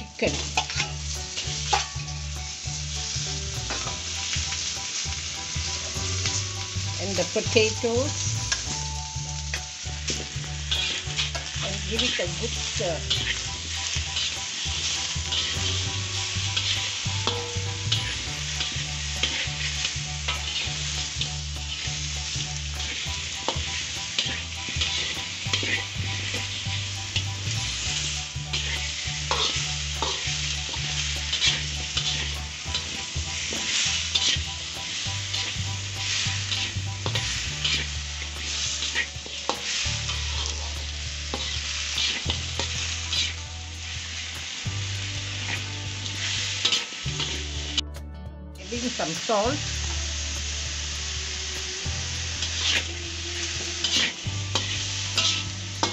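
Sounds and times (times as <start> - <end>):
food sizzling in hot oil: 0.0 - 47.8, 48.6 - 55.9
metal spatula scraping wok: 0.0 - 47.8, 48.6 - 55.9.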